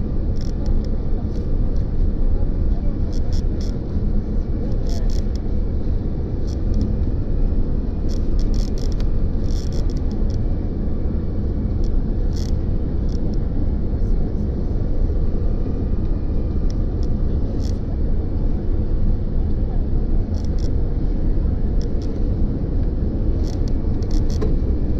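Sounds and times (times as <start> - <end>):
jet airliner cabin rumble: 0.0 - 24.9.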